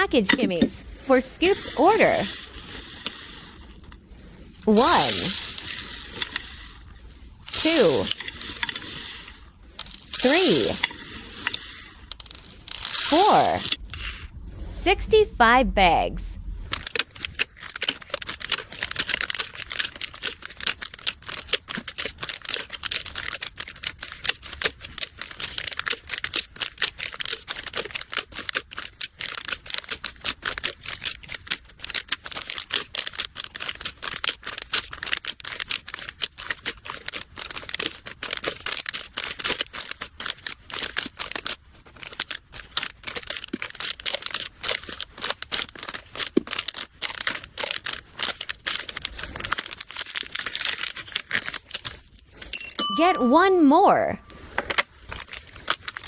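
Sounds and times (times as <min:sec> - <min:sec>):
plastic bags crinkling and rustling: 0:00.9 - 0:10.2, 0:10.8 - 0:13.1, 0:16.7 - 0:52.5, 0:54.4 - 0:56.0.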